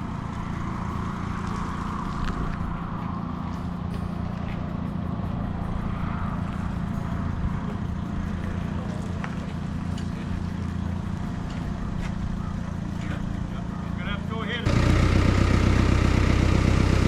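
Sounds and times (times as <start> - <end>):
faint ticks: 0.0 - 14.6
engine humming: 0.0 - 17.0.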